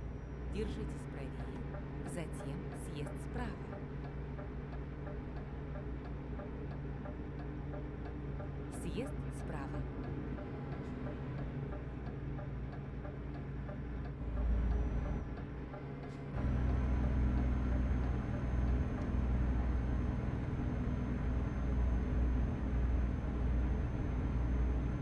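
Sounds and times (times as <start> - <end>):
truck engine running: 0.0 - 25.0
turn signal ticking: 1.2 - 21.6.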